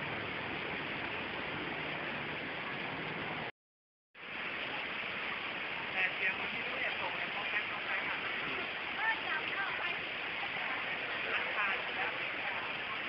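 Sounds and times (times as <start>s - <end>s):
heavy rain pouring: 0.0s - 3.5s, 4.2s - 13.0s.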